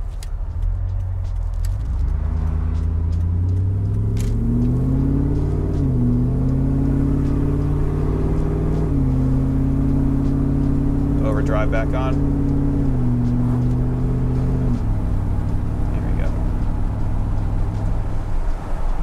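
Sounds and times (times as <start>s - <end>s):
truck engine accelerating: 0.0s - 19.0s.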